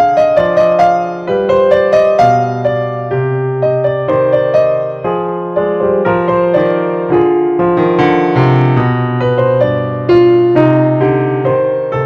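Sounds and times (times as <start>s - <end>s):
gentle keyboard melody: 0.0s - 12.0s.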